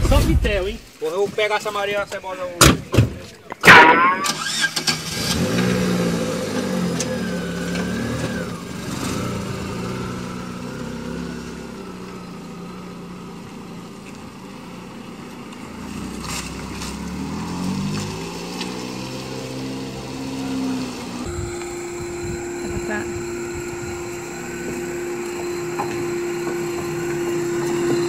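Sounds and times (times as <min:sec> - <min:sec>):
car engine revving: 0:04.1 - 0:28.0.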